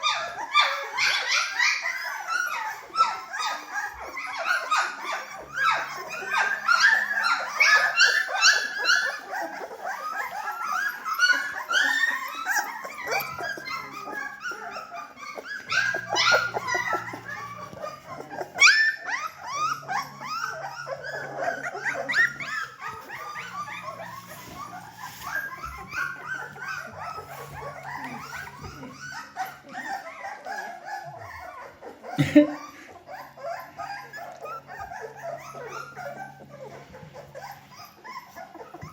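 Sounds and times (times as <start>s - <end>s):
puppies whimpering and yipping: 0.0s - 38.9s.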